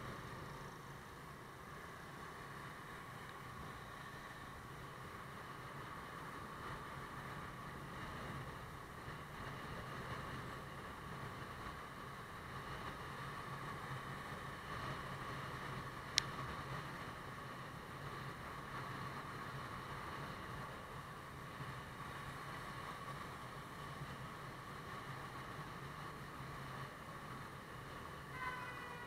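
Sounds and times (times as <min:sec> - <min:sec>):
road and wind noise: 0:00.0 - 0:29.0.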